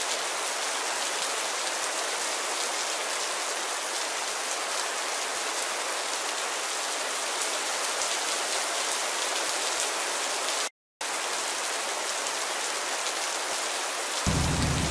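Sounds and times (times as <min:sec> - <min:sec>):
rain splashing into water: 0:00.0 - 0:14.9.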